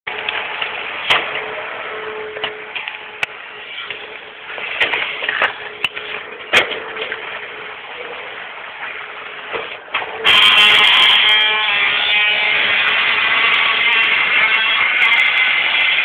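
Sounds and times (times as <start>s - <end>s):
garbage truck hum: 0.1s - 16.0s.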